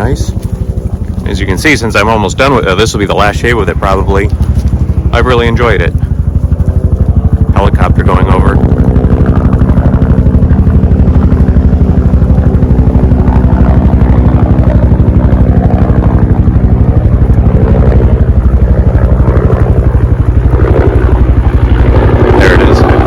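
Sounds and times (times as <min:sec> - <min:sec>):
helicopter rotor chopping: 0:00.0 - 0:23.0.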